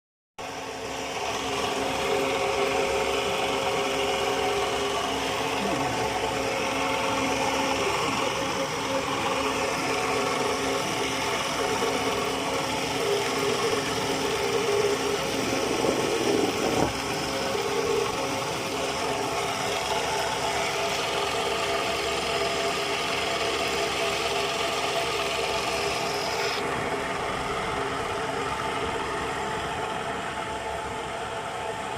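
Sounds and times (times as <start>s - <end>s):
drill press humming: 0.4s - 31.9s.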